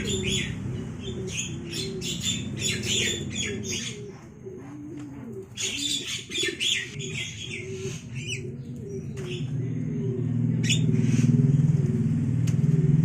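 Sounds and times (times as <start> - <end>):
engine running close by: 0.0 - 5.6, 6.9 - 13.0
birds harsh chirping calls: 0.0 - 12.1
pigeons cooing: 0.0 - 13.0.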